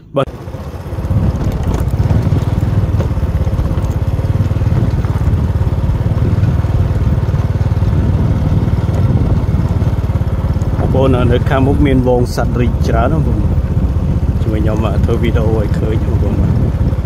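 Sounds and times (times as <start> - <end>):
small motorcycle engine running: 0.3 - 17.0.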